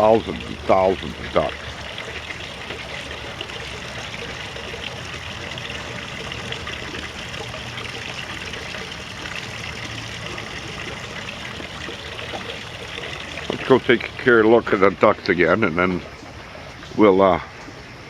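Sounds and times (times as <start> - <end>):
trickling rushing water: 0.0 - 18.0.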